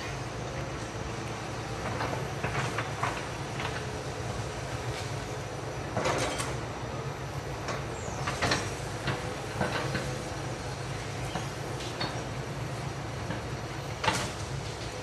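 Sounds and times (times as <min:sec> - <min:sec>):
distant excavator engine drone: 0:00.0 - 0:15.0.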